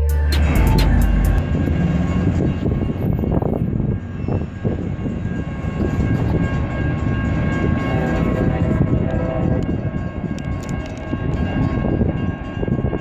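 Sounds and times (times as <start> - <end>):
diesel freight train rumbling: 0.0 - 13.0.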